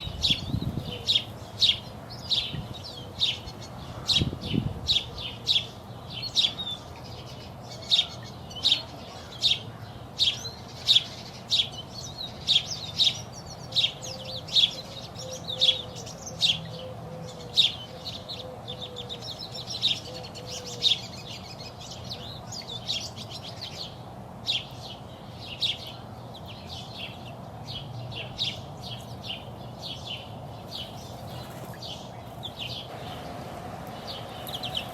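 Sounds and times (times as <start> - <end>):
small songbirds chirping: 0.0 - 34.9.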